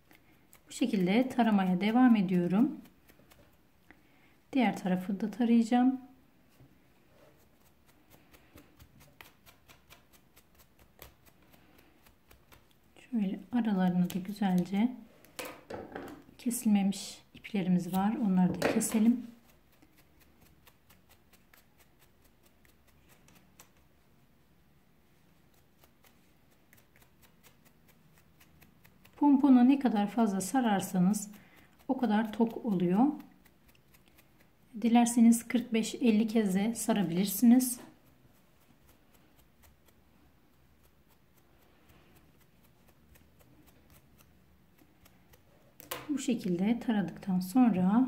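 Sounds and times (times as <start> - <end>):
comb scratching through cord: 0.0 - 4.0, 6.5 - 15.4, 16.4 - 24.2, 25.0 - 48.0.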